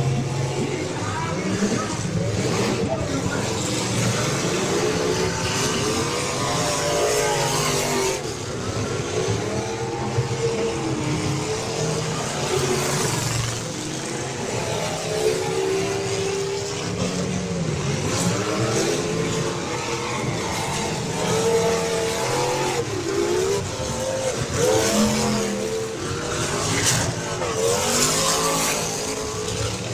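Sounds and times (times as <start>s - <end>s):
race car engines revving: 0.0s - 29.9s.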